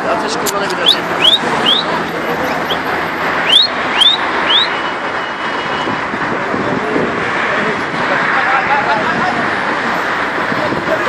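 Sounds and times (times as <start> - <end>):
crowd murmuring: 0.0 - 11.0
street traffic: 0.0 - 11.0.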